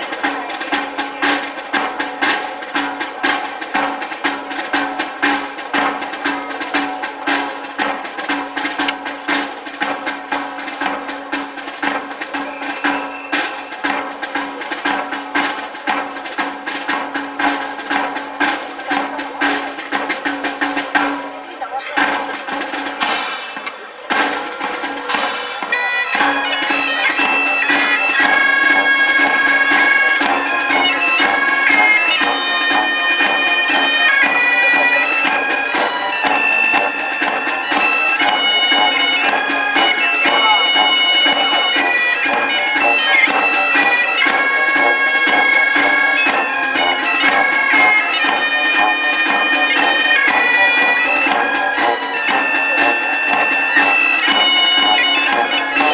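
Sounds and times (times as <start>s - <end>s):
drums: 0.0s - 55.9s
piped melody: 0.0s - 55.9s.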